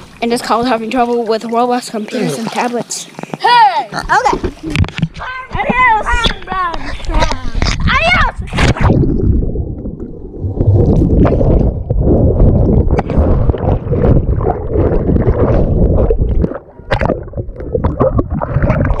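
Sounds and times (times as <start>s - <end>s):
underwater rushing and bubbling: 0.0s - 3.4s, 4.0s - 5.2s, 6.5s - 19.0s.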